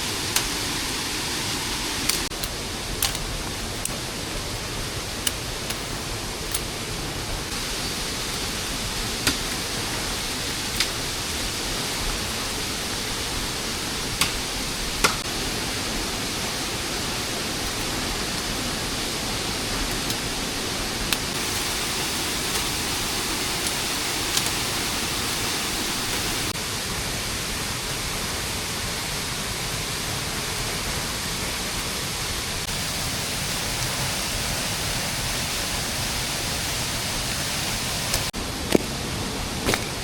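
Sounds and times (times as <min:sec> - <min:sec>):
rain falling in forest: 0:00.0 - 0:40.0.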